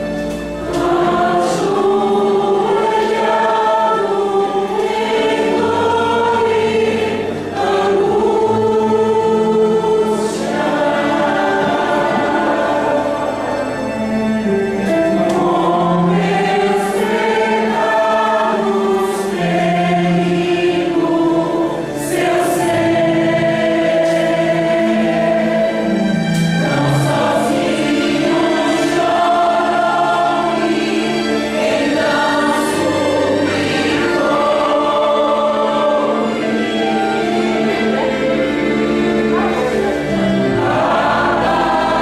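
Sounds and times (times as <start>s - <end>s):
backing track music: 0.0s - 42.0s
choir singing a hymn: 0.0s - 42.0s.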